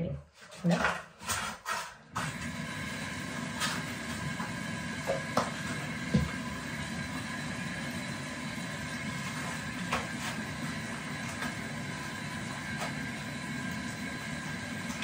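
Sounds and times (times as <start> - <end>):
tap water running into sink: 2.2 - 15.0.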